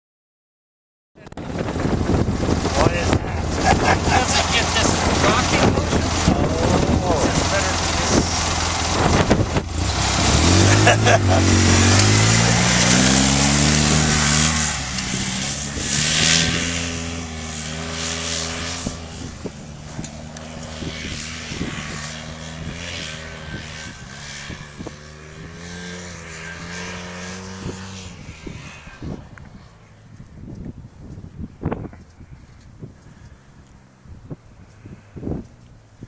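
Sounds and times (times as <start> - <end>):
off-road vehicle engine: 1.2 - 36.0.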